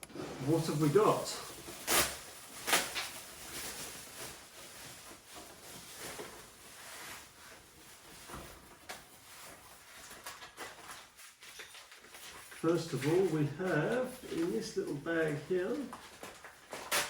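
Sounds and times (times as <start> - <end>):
packaging rustling: 0.1 - 17.0.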